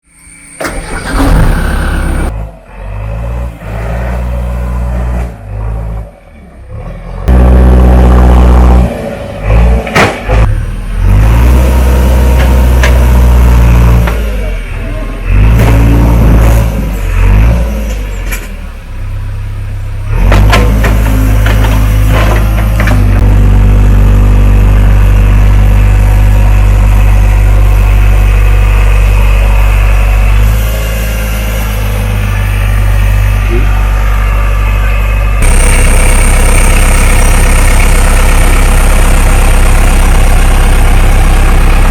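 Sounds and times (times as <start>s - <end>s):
diesel engine running and revving: 0.6s - 41.9s.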